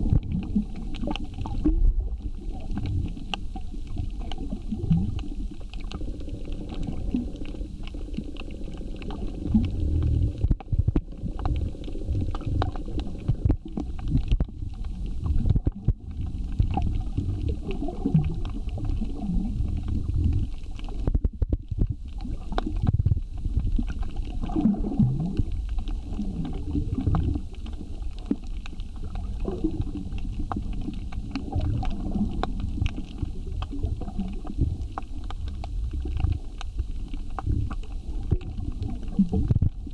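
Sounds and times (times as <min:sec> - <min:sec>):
low muffled underwater rumble: 0:00.0 - 0:39.9.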